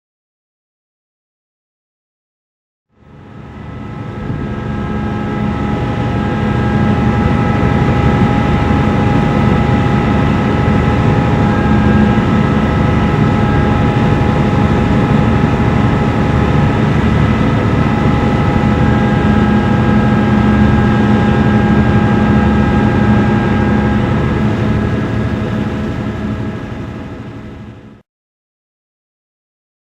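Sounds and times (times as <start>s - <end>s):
ship engines droning: 3.0s - 28.0s.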